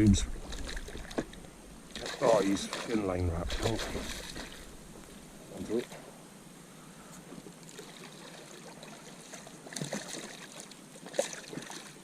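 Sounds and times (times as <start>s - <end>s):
water lapping against a boat: 0.1s - 6.0s, 7.3s - 12.0s.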